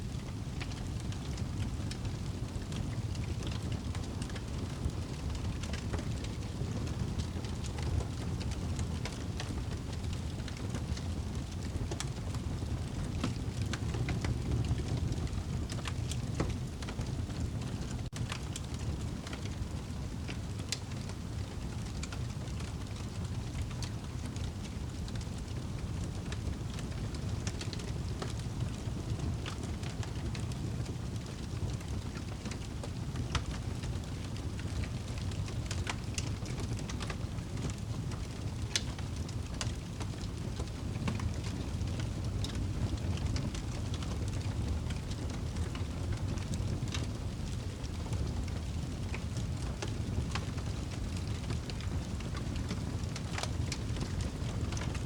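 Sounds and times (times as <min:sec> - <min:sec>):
low rumble of flame: 0:00.0 - 0:55.0
fire crackling and popping: 0:00.1 - 0:55.0.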